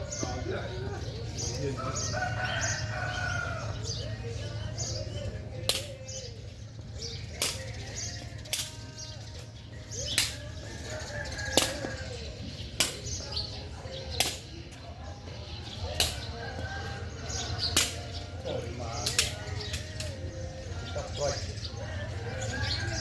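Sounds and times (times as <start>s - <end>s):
faint distant voices: 0.0s - 23.0s.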